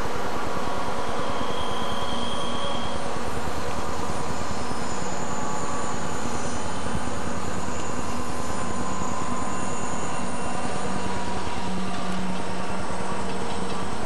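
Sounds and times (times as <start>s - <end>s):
diesel locomotives droning: 0.0s - 14.0s.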